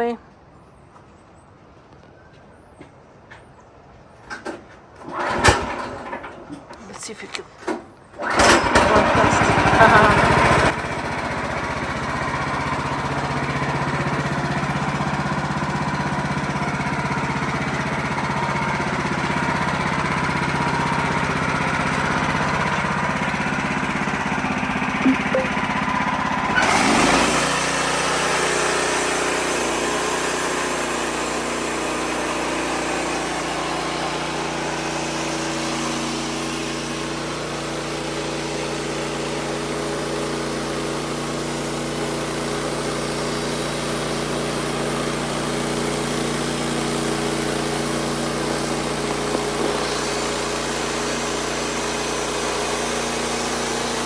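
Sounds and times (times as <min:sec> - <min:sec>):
sawmill engine running: 0:05.0 - 0:07.1, 0:08.2 - 0:54.0.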